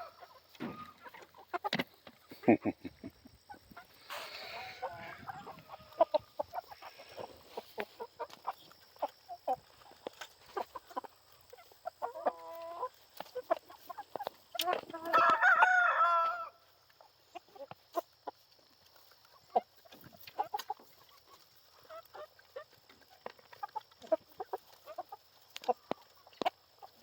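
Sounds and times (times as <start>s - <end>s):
chickens clucking and calling: 0.0s - 27.0s.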